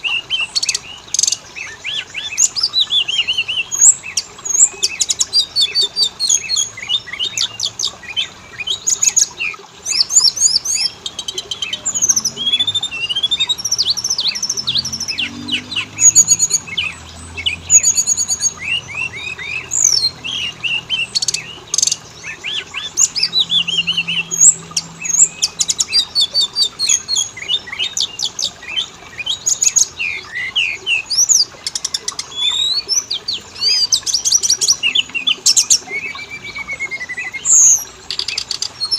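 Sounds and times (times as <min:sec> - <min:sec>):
songbird whistles and trills: 0:00.0 - 0:38.9.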